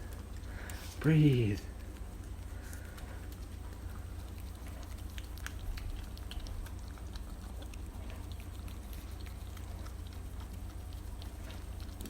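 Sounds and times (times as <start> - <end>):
dog licking: 0.0 - 12.0
steady low hum: 0.0 - 12.0.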